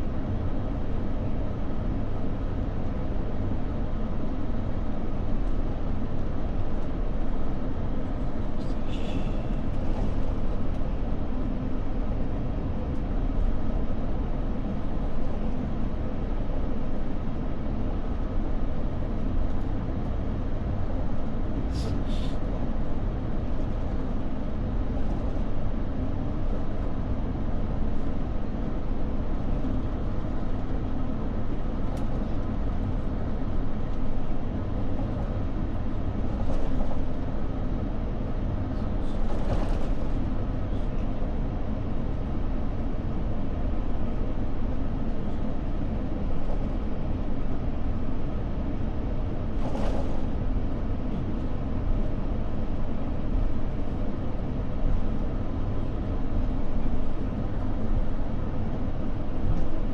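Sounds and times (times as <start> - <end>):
jet engine and cabin air rumble: 0.0 - 59.9.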